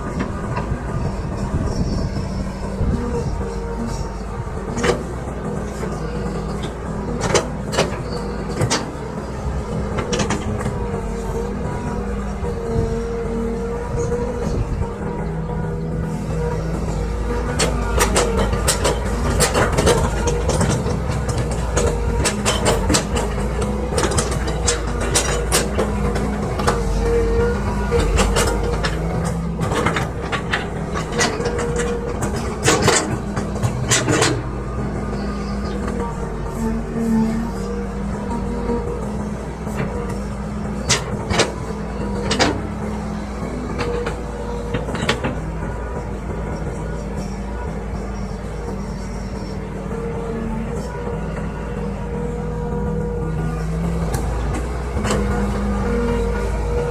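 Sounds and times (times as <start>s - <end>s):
excavator diesel engine: 0.0s - 56.9s
metallic clanks and knocks: 4.6s - 14.6s, 16.3s - 49.8s, 50.7s - 56.9s.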